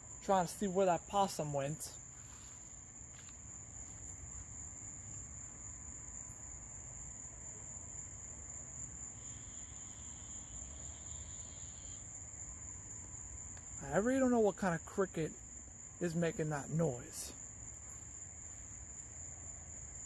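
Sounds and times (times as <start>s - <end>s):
cricket trilling: 0.0s - 20.0s.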